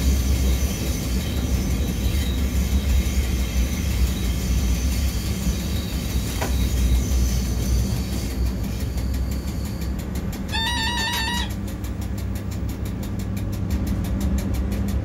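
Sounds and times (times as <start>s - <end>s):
high whine: 0.0s - 12.9s
locomotive rumble: 0.0s - 15.0s.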